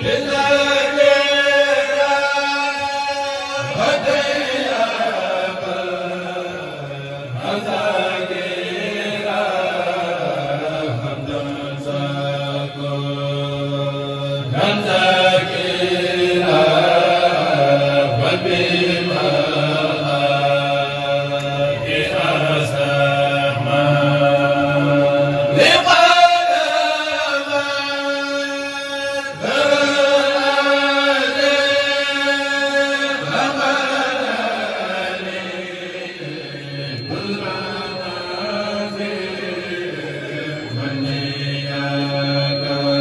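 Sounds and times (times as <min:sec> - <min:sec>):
men chanting through microphones: 0:00.0 - 0:43.0.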